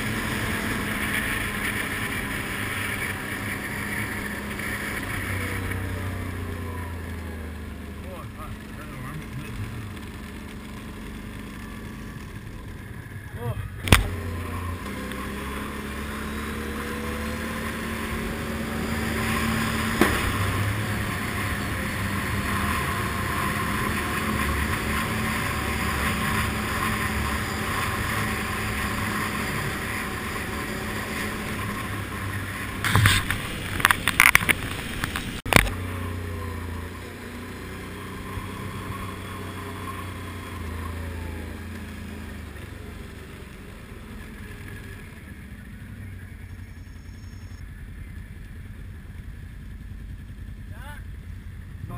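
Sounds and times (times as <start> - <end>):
atv engine running: 0.0 - 51.9
tyre and trail noise: 0.0 - 51.9.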